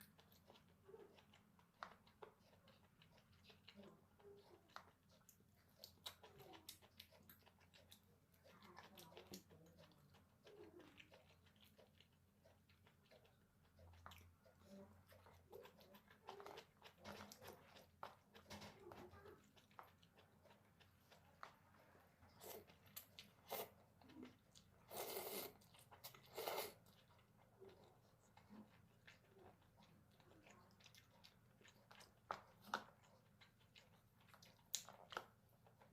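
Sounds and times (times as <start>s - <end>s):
chewing and biting noodles: 0.0s - 35.9s.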